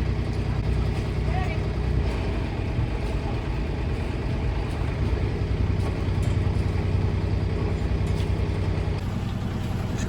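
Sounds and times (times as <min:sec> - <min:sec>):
boat engine throbbing: 0:00.0 - 0:10.0.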